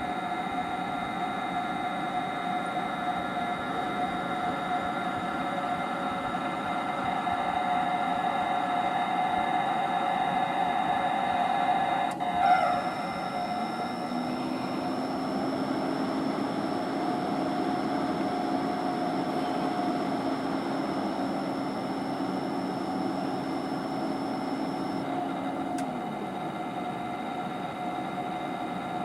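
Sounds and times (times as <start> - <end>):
fan whirring: 0.0 - 29.0.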